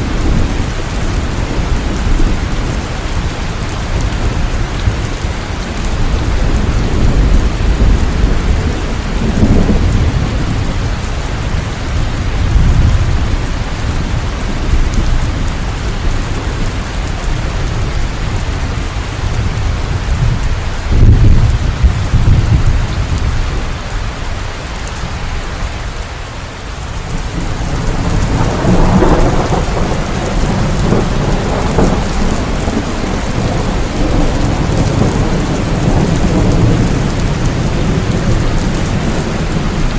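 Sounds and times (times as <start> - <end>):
rolling thunder: 0.0 - 23.9, 27.1 - 39.9
heavy rain: 0.0 - 39.9.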